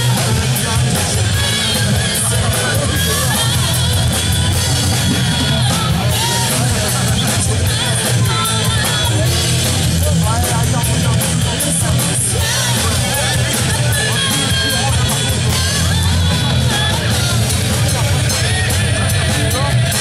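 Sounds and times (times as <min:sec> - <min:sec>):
bass guitar: 0:00.0 - 0:20.0
distorted electric guitar: 0:00.0 - 0:20.0
drum kit: 0:00.0 - 0:20.0.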